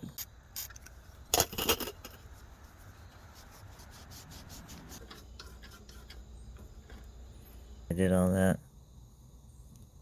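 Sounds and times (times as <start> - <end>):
faint background hum: 0.0 - 10.0.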